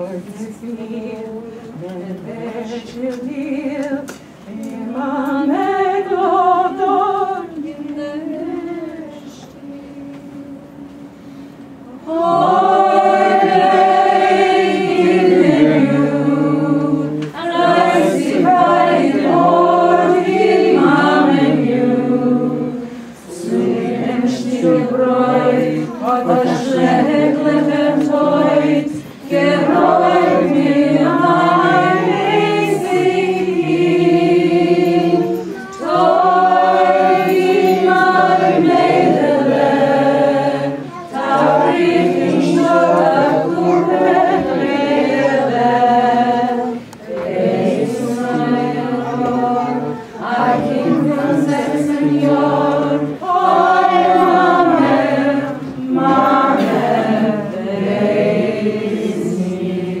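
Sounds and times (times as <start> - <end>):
group singing a cappella: 0.0 - 60.0.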